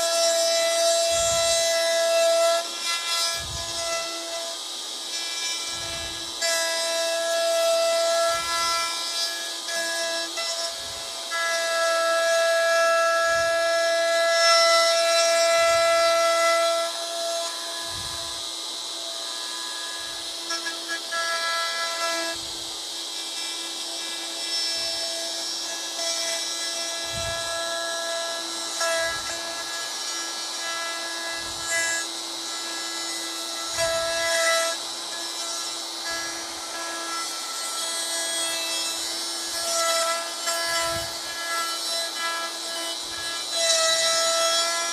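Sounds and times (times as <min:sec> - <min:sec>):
router cutting wood: 0:00.0 - 0:44.9.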